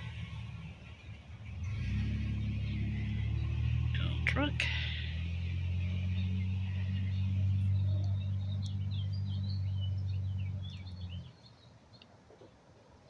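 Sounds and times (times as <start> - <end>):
truck engine rumbling: 0.0 - 11.6
small birds chirping: 0.0 - 13.0.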